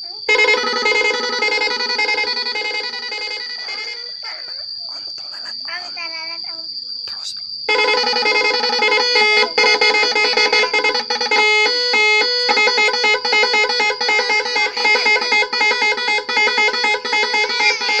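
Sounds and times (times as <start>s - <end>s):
bus multi-tone horn tune: 0.0s - 4.1s, 7.7s - 18.0s.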